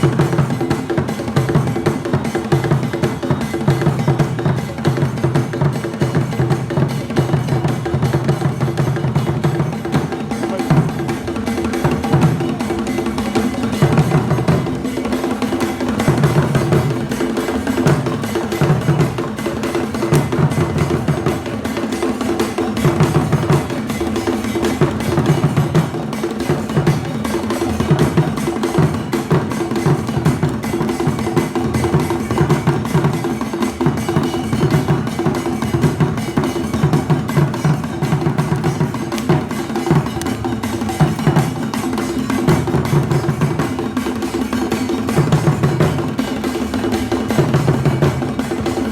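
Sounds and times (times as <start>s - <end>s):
interlocking drum strokes: 0.0s - 48.9s.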